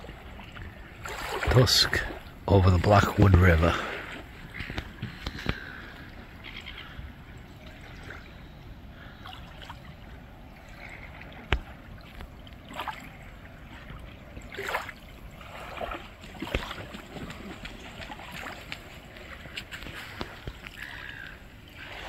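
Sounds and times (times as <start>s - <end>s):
small waves lapping: 0.0s - 22.0s.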